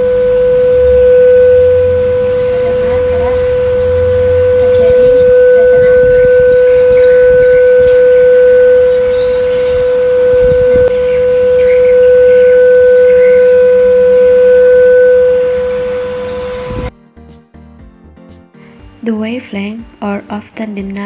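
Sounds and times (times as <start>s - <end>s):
steady tone from phone speaker: 0.0s - 16.9s.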